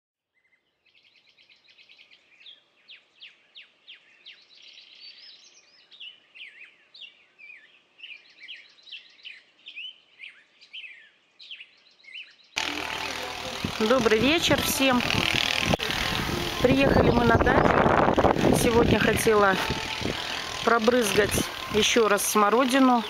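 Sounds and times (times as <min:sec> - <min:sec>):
songbirds singing: 0:00.3 - 0:23.0.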